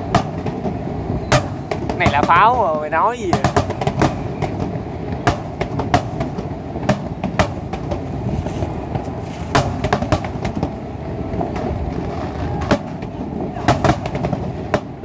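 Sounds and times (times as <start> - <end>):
fireworks bangs and pops: 0.0 - 15.0
rumble of distant explosions: 0.0 - 15.0.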